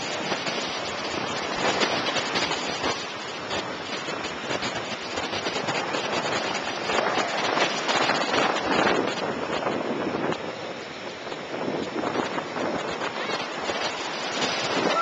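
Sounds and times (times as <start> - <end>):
waves washing onto beach: 0.0 - 15.0
wind: 0.0 - 15.0.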